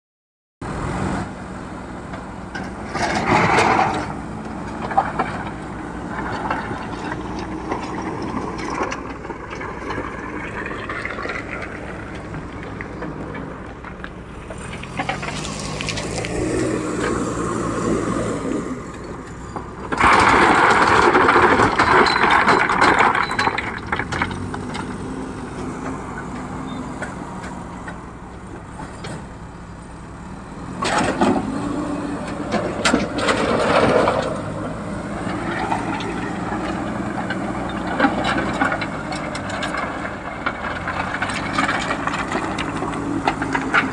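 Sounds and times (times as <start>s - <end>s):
backhoe diesel engine working: 0.6s - 43.9s.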